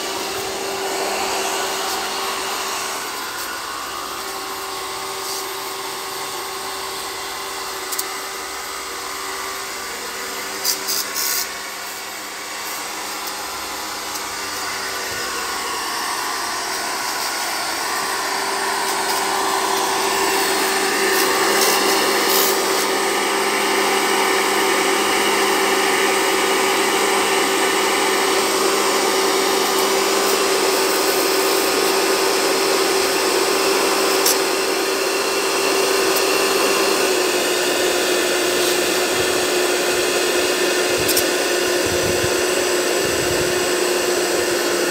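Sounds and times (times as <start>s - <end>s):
pressure washer running: 0.0s - 44.9s.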